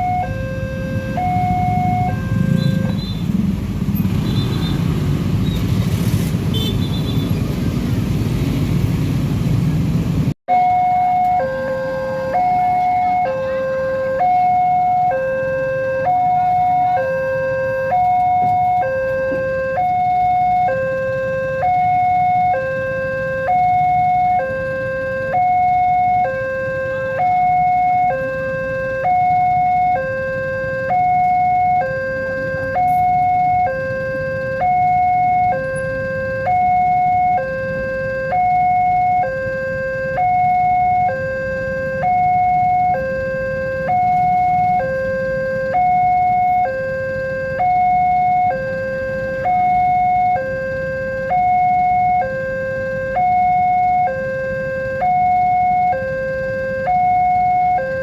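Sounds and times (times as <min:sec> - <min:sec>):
two-tone level crossing alarm: 0:00.0 - 0:03.2, 0:10.5 - 0:58.0.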